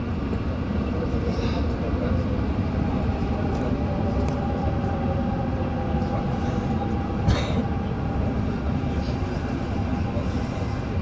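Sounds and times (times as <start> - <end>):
faint steady train tones: 0.0 - 11.0
train low rumble: 0.0 - 11.0.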